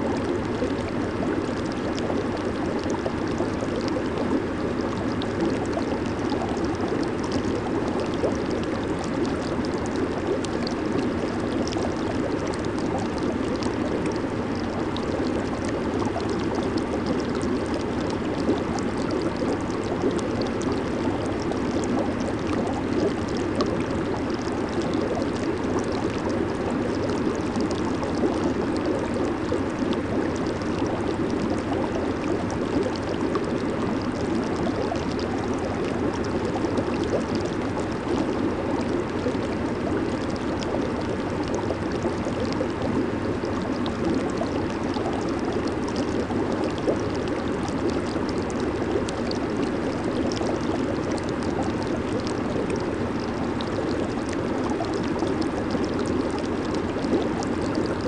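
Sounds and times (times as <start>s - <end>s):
bubbles crackling: 0.0s - 58.0s
hot tub water churning: 0.0s - 58.0s.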